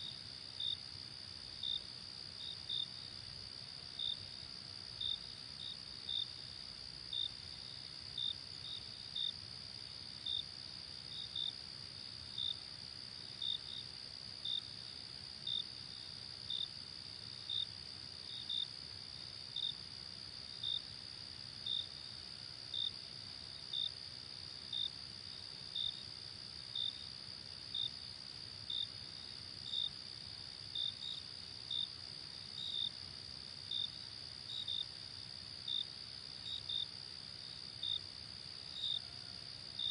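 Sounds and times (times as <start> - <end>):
louder cricket chirp: 0.0 - 39.9
steady cricket trill: 0.0 - 39.9.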